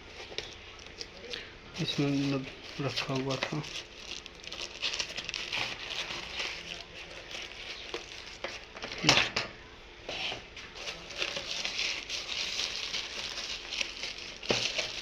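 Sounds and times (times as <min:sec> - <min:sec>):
plastic packaging crinkling: 0:00.0 - 0:09.2, 0:10.6 - 0:15.0.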